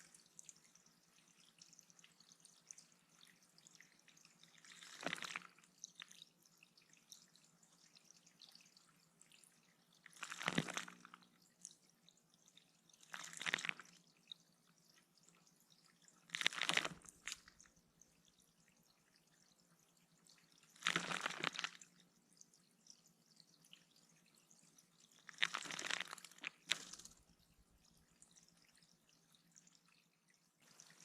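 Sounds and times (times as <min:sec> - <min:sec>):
faint dripping water: 0:00.0 - 0:31.0.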